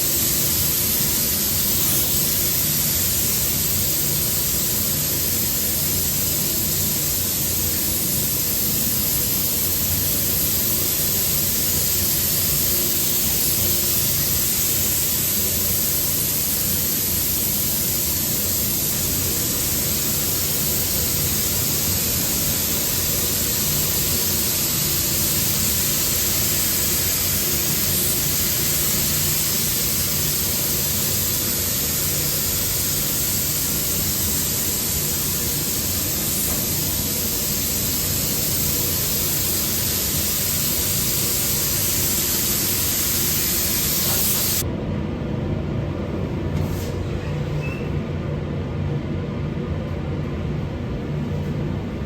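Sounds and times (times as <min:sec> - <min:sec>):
hiss of rushing air: 0:00.0 - 0:44.6.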